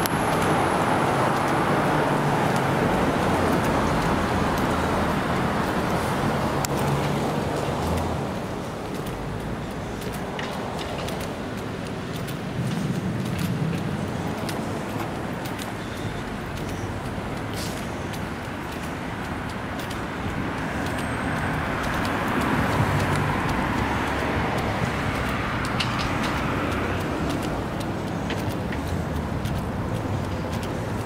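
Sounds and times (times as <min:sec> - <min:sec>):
cars driving by: 0:00.0 - 0:31.0.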